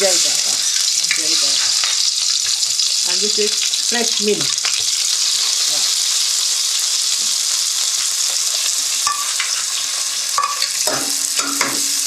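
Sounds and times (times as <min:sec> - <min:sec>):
spices sizzling in hot fat: 0:00.0 - 0:12.0.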